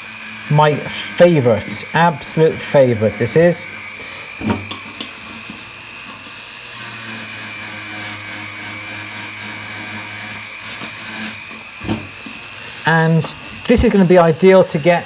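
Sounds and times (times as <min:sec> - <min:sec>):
pendant drill whining: 0:00.0 - 0:15.0.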